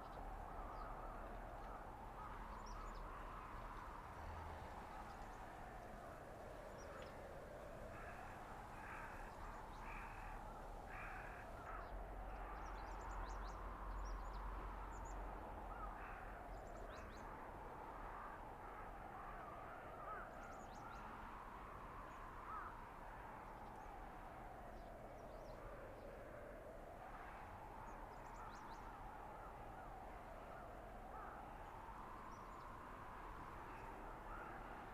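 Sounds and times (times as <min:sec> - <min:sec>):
howling blizzard wind: 0:00.0 - 0:34.9.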